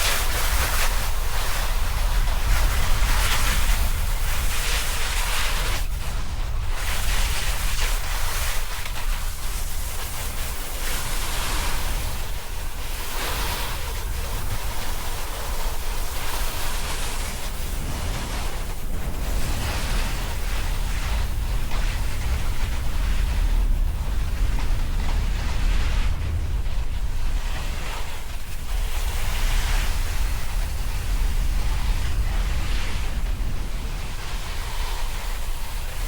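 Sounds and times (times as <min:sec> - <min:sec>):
snowboard sliding over snow: 0:00.0 - 0:06.0, 0:06.7 - 0:36.0
wind noise on microphone: 0:00.0 - 0:36.0.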